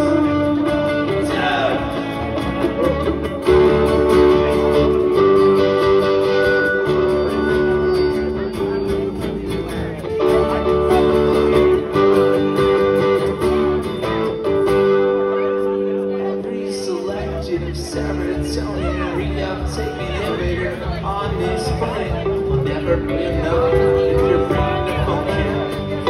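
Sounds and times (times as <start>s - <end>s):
instrumental guitar band: 0.0s - 26.0s.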